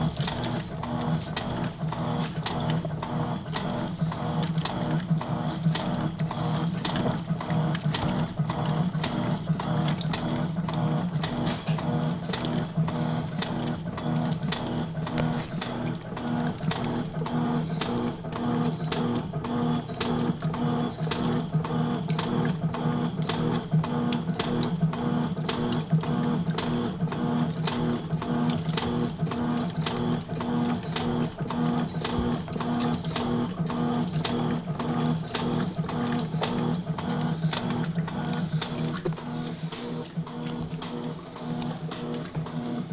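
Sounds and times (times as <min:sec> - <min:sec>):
washing machine motor hum: 0:00.0 - 0:42.9.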